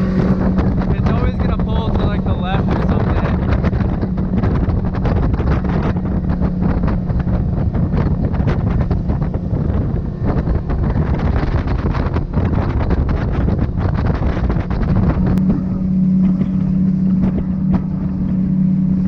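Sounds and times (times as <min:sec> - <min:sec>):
outboard motor drone: 0:00.0 - 0:19.0
wind buffeting microphone: 0:00.0 - 0:19.0.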